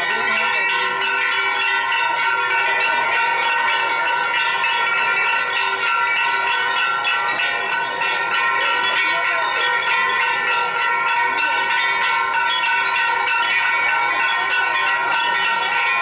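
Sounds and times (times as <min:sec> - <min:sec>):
festival bells clanging: 0:00.0 - 0:16.0.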